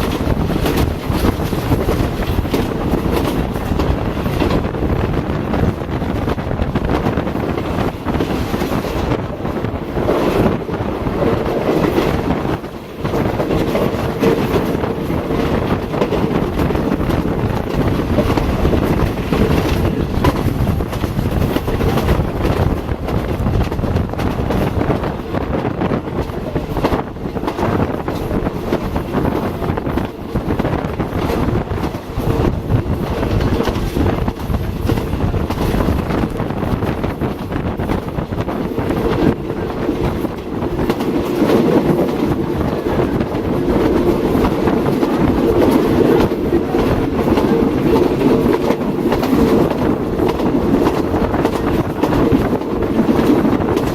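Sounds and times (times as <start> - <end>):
train hum: 0.0 - 53.9
train rumbling on track: 0.0 - 53.9
wheels clicking over rails: 0.0 - 53.9.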